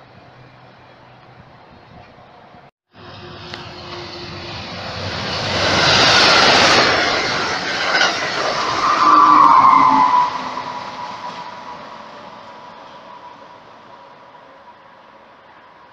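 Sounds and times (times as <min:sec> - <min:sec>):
locomotive high whine: 0:00.0 - 0:15.9
train passing at speed: 0:00.0 - 0:15.9.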